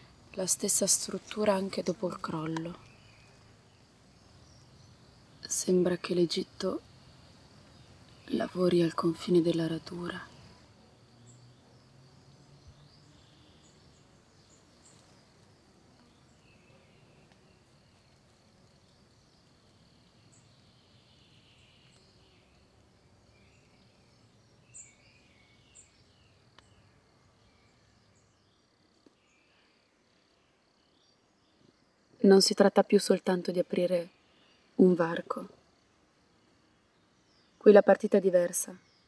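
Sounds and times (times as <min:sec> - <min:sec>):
high chirps of insects or birds: 0:00.0 - 0:39.0.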